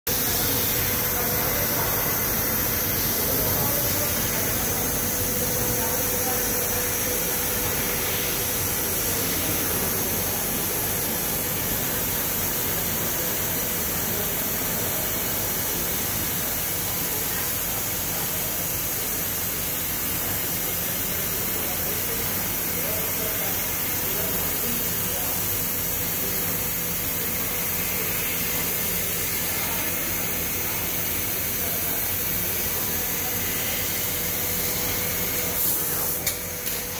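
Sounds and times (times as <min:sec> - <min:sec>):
laser cutting machine hissing: 0:00.1 - 0:36.9.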